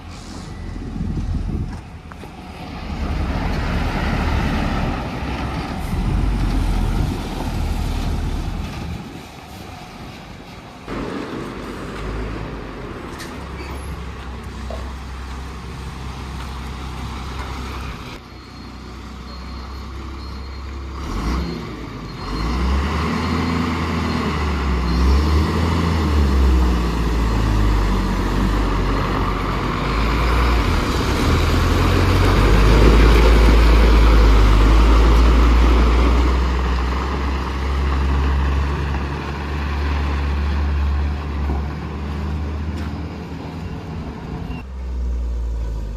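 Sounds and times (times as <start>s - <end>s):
diesel engine revving: 0.0s - 18.2s, 19.2s - 45.9s.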